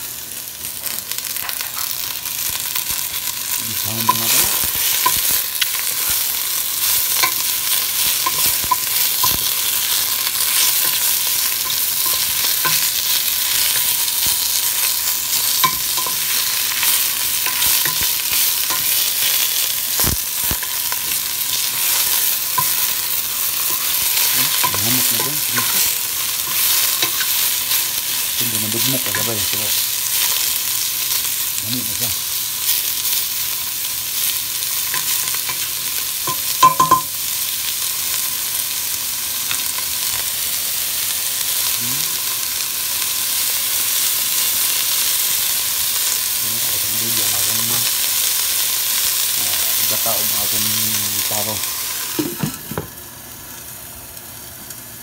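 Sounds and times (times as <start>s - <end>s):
chorizo and onions sizzling in oil: 0.0s - 55.0s.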